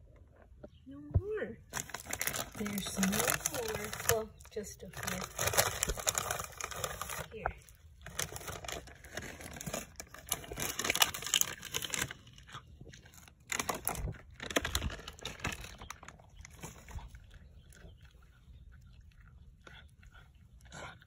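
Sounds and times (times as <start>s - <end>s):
cat crunching dry treats: 1.7s - 21.0s.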